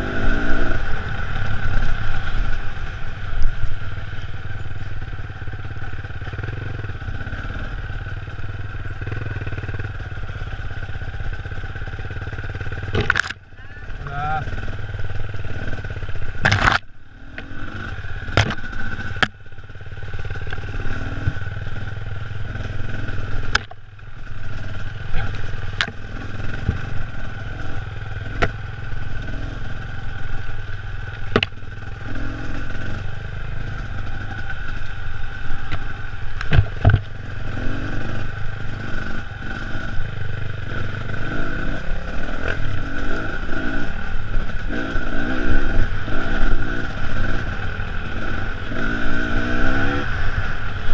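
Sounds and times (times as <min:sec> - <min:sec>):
dirt bike engine running: 0:00.0 - 0:50.9
knocks and clatter over ruts: 0:00.0 - 0:50.9.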